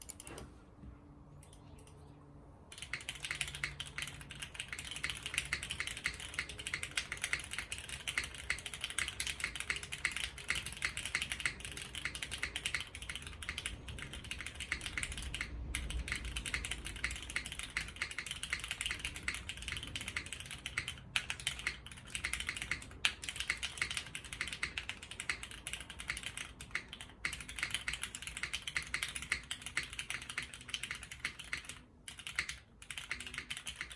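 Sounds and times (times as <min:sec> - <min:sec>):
fast typing on mechanical keyboard: 0:02.7 - 0:33.9.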